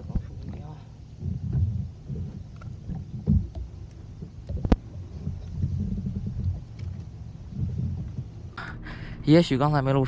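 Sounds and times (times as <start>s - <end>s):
low thumps and rumbles: 0.0s - 10.0s.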